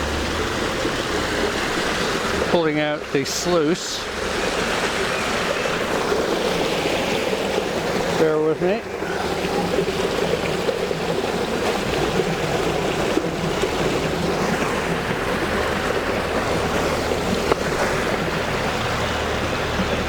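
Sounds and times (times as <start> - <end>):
water rushing through sluice: 0.0 - 20.0.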